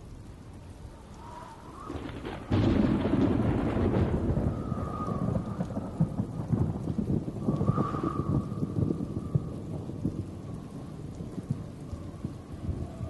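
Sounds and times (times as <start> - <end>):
rain hissing: 0.0 - 13.0
thunder clap and rumble: 1.1 - 13.0.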